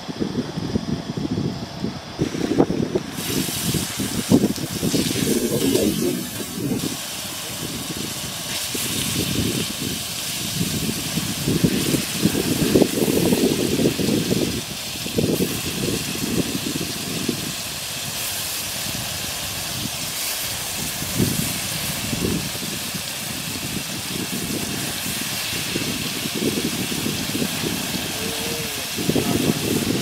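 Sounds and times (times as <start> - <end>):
prawns sizzling in oil: 2.1 - 30.0.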